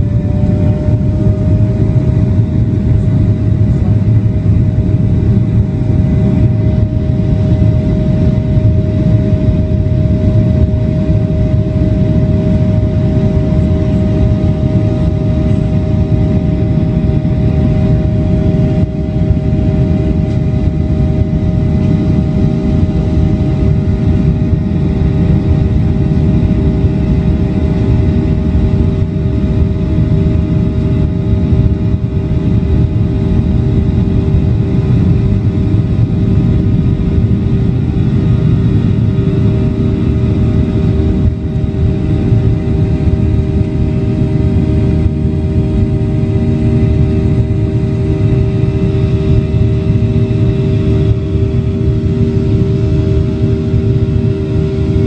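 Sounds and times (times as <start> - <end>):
airplane engines at takeoff: 0.0 - 55.0.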